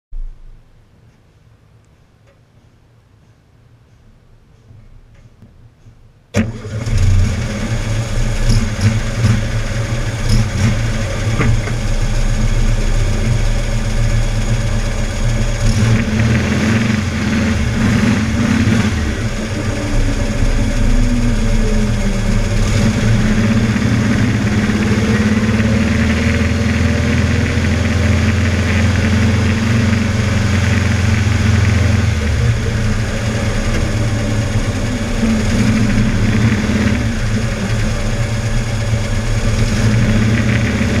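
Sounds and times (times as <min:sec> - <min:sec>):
car engine running: 0:06.4 - 0:41.0.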